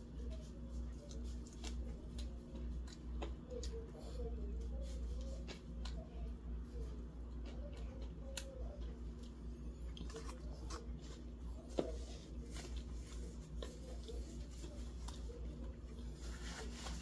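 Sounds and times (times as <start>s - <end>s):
low steady hum: 0.0s - 17.0s
person chewing food: 0.8s - 17.0s.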